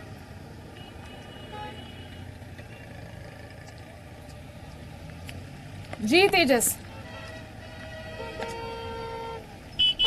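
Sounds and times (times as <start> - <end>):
distant road traffic rumble: 0.0 - 10.0.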